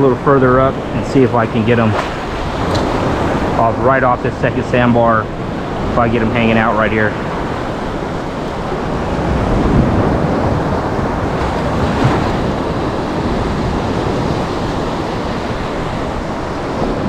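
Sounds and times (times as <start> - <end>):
surf washing and lapping: 0.0 - 17.0
wind buffeting the microphone: 0.0 - 17.0.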